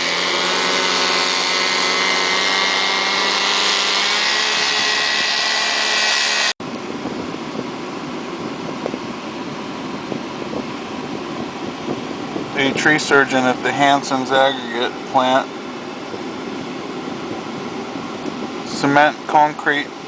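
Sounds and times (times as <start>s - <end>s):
low engine noise with rushing hiss: 0.0s - 20.0s
machine engine running at high speed: 0.0s - 20.0s.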